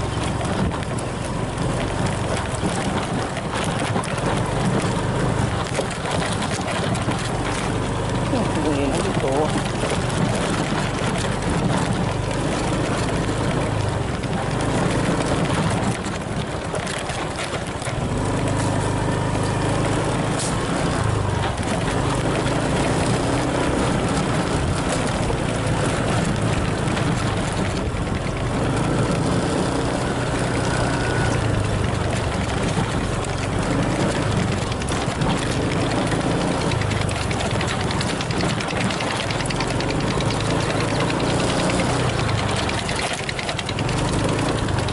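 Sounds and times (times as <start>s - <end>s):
small motorbike engine running: 0.0s - 44.9s.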